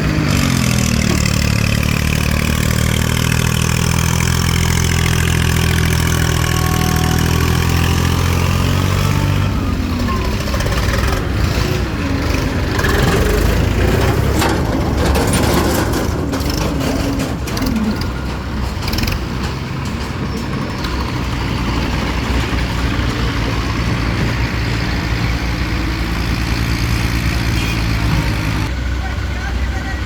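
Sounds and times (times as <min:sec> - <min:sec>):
knocks and rattles: 0:00.0 - 0:28.7
tractor engine under load: 0:00.0 - 0:30.0.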